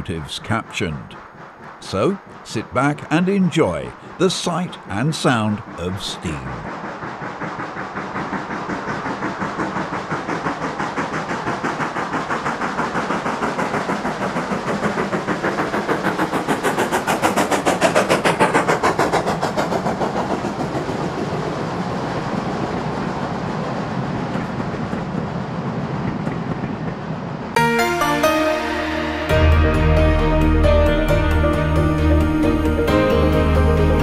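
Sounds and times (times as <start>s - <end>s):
steam locomotive exhaust beats: 0.0s - 34.0s.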